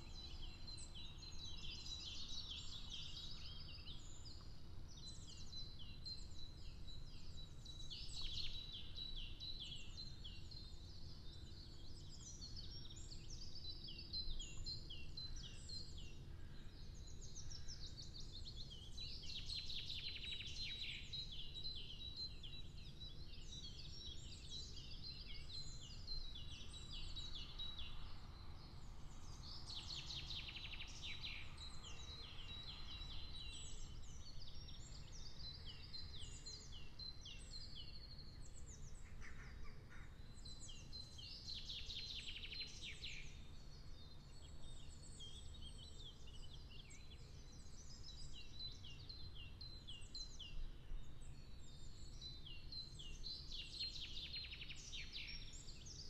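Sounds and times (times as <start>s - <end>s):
small birds singing: 0.0s - 56.0s.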